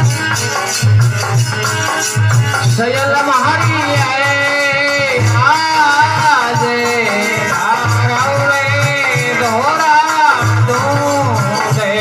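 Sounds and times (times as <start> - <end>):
steady low drum beat: 0.0 - 12.0.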